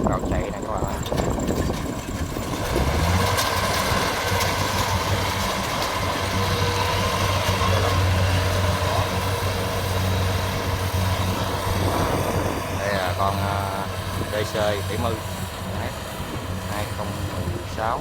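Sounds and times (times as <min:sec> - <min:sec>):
combine harvester diesel engine: 0:00.0 - 0:18.0.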